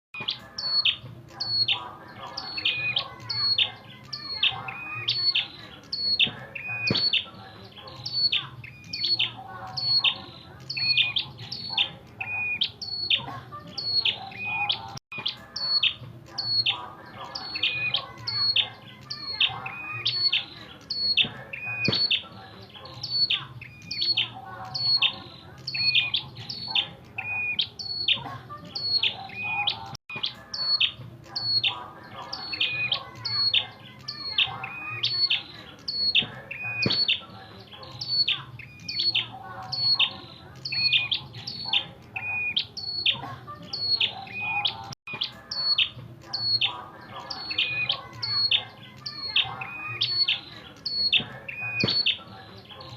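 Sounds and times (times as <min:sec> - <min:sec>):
bird chirping call: 0:00.1 - 0:52.9.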